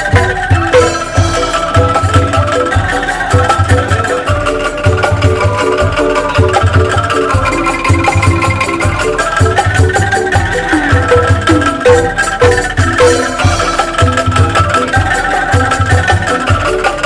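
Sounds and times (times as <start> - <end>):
bamboo instruments playing tune: 0.0 - 17.0
drum kit beat: 0.0 - 17.0.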